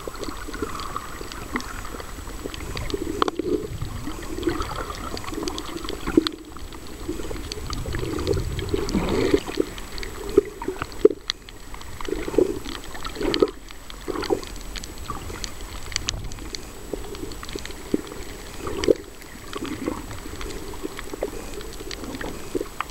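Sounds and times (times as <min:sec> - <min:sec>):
water sloshing and gurgling: 0:00.0 - 0:22.9.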